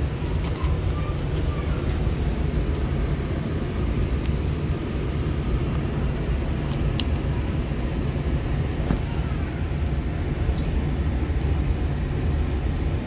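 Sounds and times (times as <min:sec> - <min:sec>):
terminal background rumble: 0:00.0 - 0:13.0.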